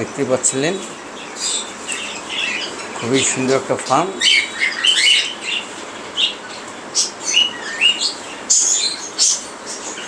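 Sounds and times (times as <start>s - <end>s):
caged birds chirping: 0.0s - 10.0s.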